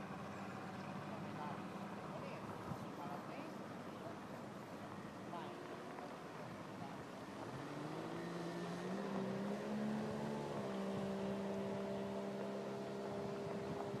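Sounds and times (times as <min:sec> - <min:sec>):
motorboat engine: 0:00.0 - 0:14.0.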